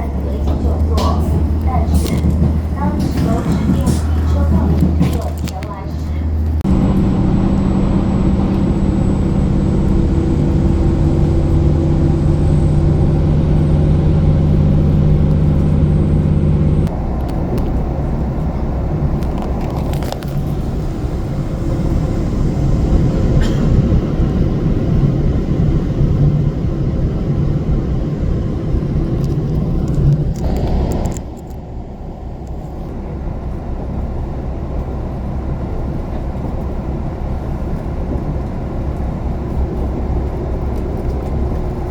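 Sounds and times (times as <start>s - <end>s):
train engine drone: 0.0s - 41.9s
wheels rumbling on rail: 0.0s - 41.9s.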